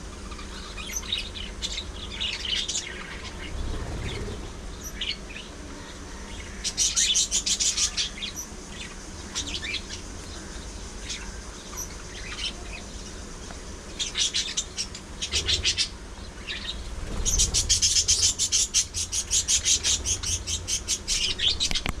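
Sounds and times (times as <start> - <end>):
budgerigars chirping and warbling: 0.1 - 22.0.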